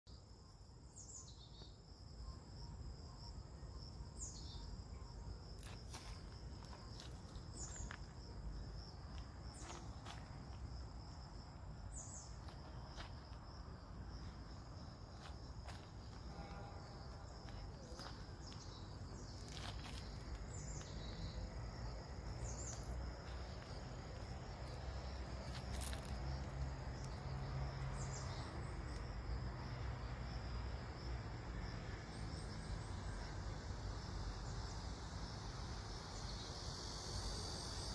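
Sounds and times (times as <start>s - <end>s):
insect trill: 0.1s - 37.9s.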